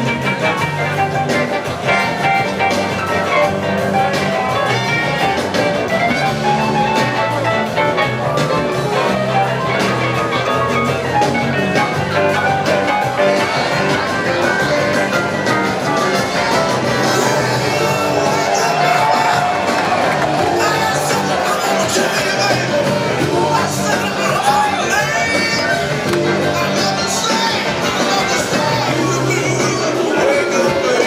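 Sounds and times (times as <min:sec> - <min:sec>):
live blues-funk band: 0:00.0 - 0:31.0.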